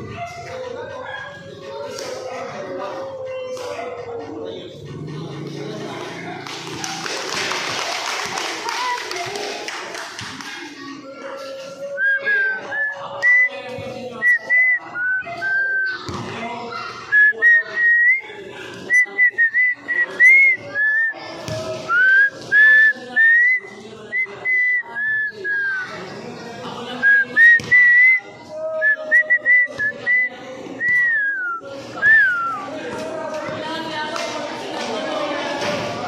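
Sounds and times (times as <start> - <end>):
faint background voices: 0.0 - 36.0.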